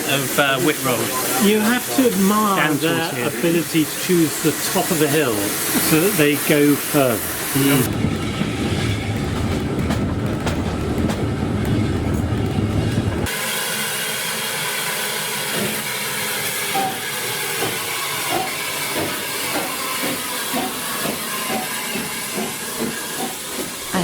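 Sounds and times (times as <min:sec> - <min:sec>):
train rumbling: 0:00.0 - 0:13.6, 0:15.0 - 0:24.0
steam locomotive hissing: 0:00.0 - 0:24.0.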